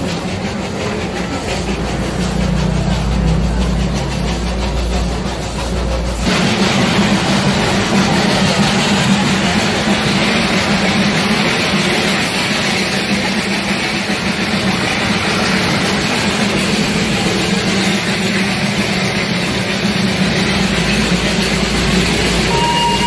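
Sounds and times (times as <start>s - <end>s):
steam locomotive working: 0.0s - 23.0s.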